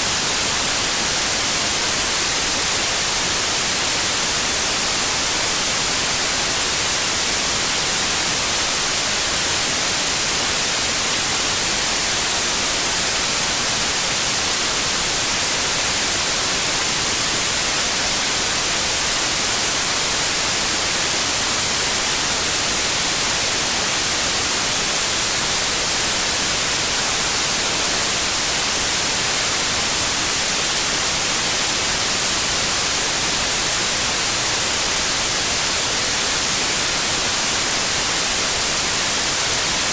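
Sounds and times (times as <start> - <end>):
synthetic white noise hiss: 0.0 - 39.9.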